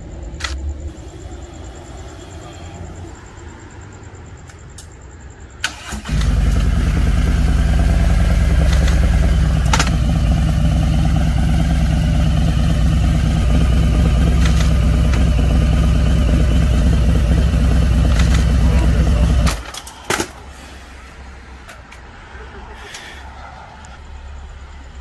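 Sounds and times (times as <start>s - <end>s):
motorcycle engine starting and idling: 0.0s - 20.4s.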